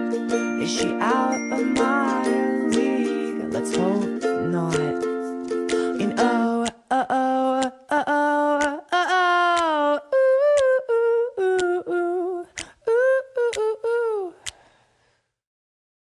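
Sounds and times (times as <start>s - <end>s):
person humming a melody: 0.0s - 14.6s.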